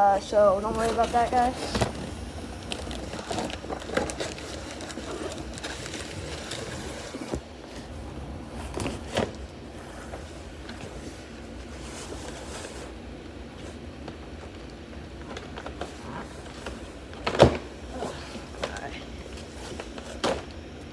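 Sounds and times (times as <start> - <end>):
cardboard packaging handled: 0.4 - 20.9.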